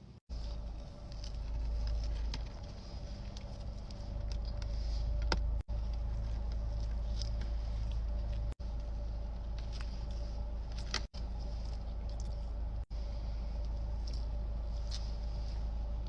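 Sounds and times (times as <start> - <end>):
steady low hum: 0.0 - 16.0
person chewing: 0.3 - 12.9, 13.5 - 15.7.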